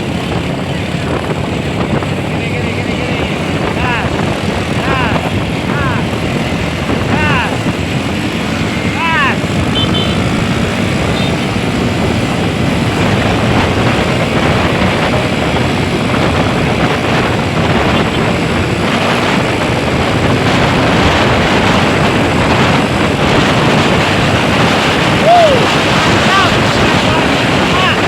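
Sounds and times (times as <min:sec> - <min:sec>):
heavy vehicle engine and road noise: 0:00.0 - 0:28.0.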